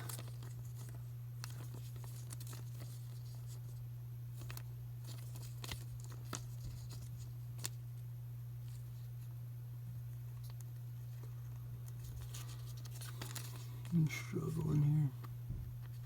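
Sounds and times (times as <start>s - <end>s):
card rustling: 0.0s - 7.8s, 10.2s - 16.0s
low electrical hum: 0.0s - 16.0s.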